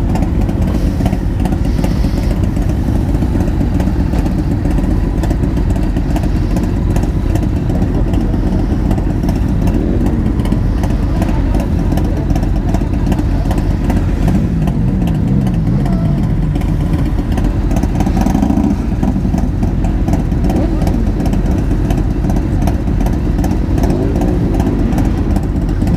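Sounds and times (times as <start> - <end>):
motorcycle engine revving: 0.0 - 25.9
motorcycle engines running: 0.0 - 25.9.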